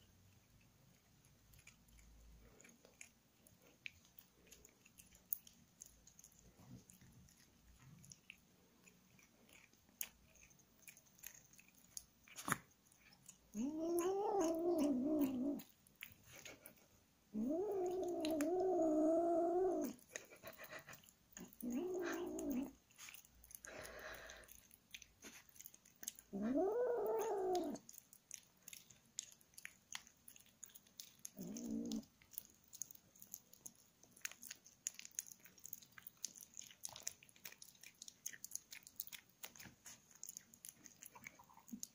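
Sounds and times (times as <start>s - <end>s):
kitten licking and chewing: 0.0s - 41.9s.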